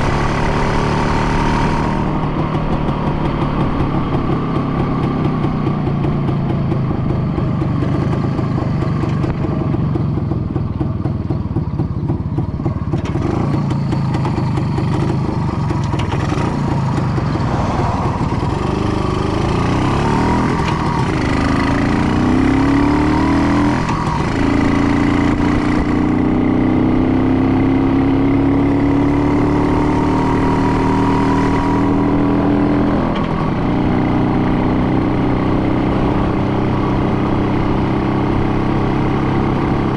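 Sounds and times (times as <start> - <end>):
engine revving: 0.0 - 9.4, 13.0 - 39.9.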